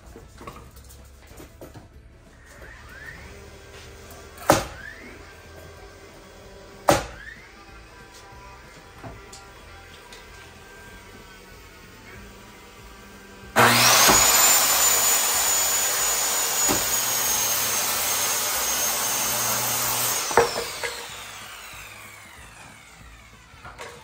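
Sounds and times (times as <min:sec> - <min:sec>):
power saw cutting wood: 0:02.3 - 0:24.0.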